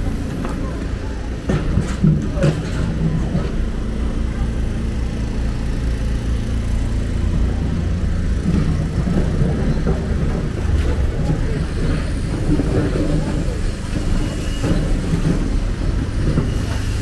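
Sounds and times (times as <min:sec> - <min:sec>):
excavator engine rumble: 0:00.0 - 0:17.0
passing street traffic: 0:00.0 - 0:17.0.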